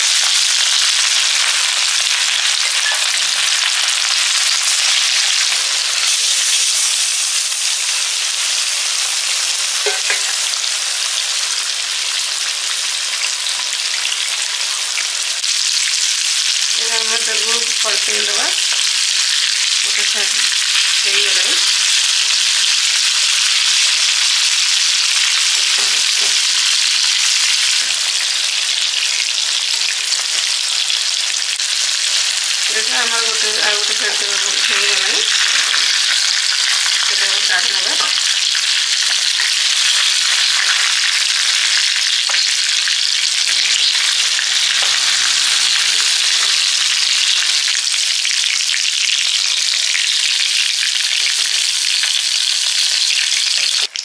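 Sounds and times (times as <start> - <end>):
fish frying in oil: 0.0 - 54.0.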